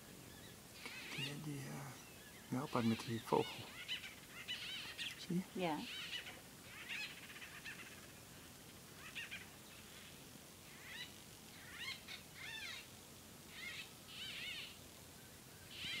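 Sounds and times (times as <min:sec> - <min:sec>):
bird calling: 0:00.0 - 0:12.9, 0:13.5 - 0:16.0.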